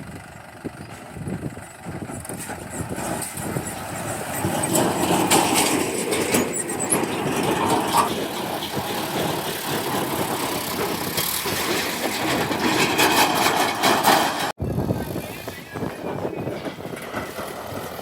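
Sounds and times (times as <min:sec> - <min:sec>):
diesel engine running: 0:00.0 - 0:18.0
clanks and rattles: 0:00.9 - 0:14.6, 0:15.8 - 0:18.0.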